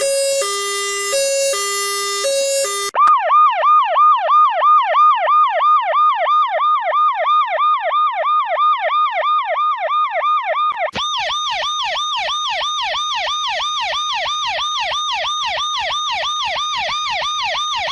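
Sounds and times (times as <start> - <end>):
emergency siren yelping: 0.0 - 17.9.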